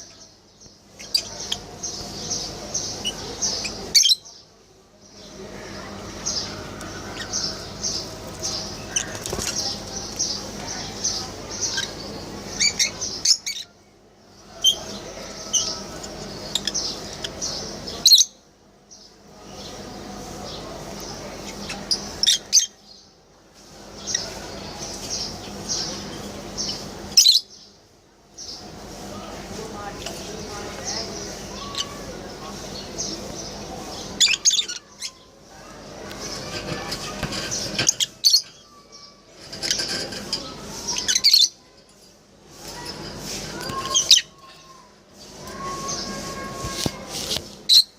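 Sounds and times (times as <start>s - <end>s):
lovebirds calling: 0.0s - 23.1s, 23.8s - 42.0s, 42.6s - 47.9s.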